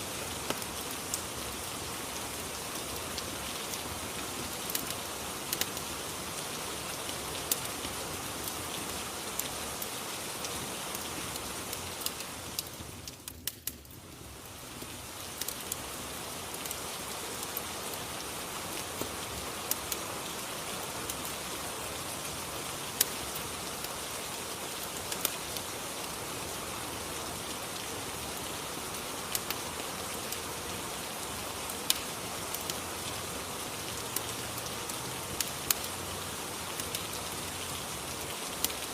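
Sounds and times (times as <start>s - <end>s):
rain hissing: 0.0s - 13.3s, 14.0s - 38.9s
fire crackling pops: 0.1s - 21.5s, 23.0s - 26.2s, 27.8s - 32.8s, 33.9s - 36.0s, 36.7s - 37.4s, 38.2s - 38.9s.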